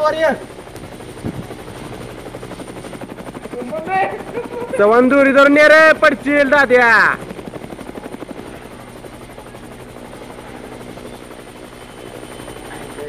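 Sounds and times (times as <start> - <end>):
helicopter engine noise: 0.0 - 13.0
helicopter rotor beating: 0.0 - 13.0.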